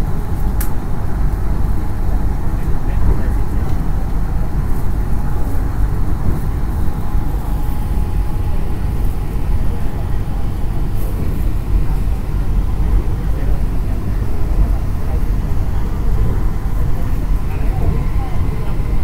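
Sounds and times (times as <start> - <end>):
monorail train rumbling: 0.0 - 19.0.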